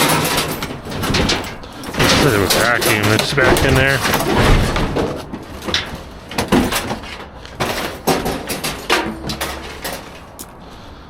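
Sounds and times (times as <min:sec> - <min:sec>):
scrap knocking and clattering: 0:00.0 - 0:10.6.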